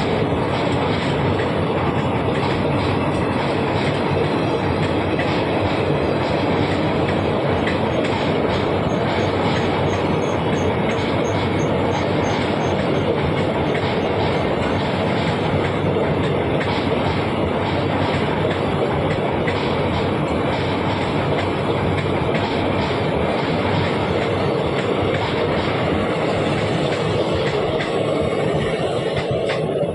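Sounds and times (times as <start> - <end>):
train wheels on rails: 0.0 - 29.9.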